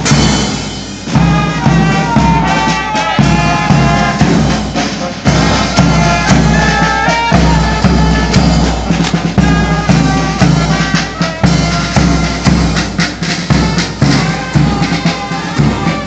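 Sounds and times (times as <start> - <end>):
marching band playing: 0.0 - 16.0
bass drum beating: 1.1 - 15.0.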